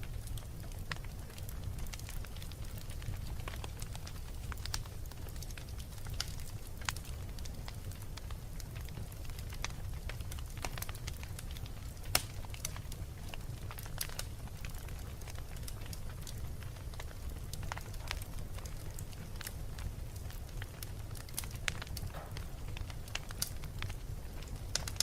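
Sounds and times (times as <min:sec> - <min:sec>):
fireplace flames rumbling: 0:00.0 - 0:25.0
wood fire crackling and popping: 0:00.0 - 0:25.0.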